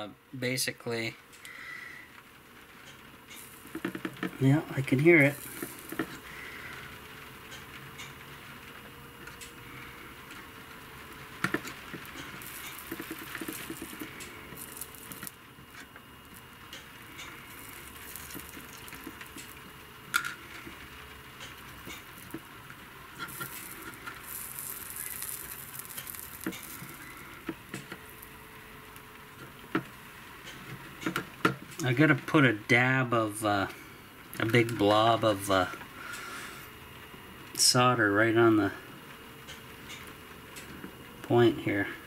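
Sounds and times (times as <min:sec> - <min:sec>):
flux sizzling and crackling: 0:00.0 - 0:42.0.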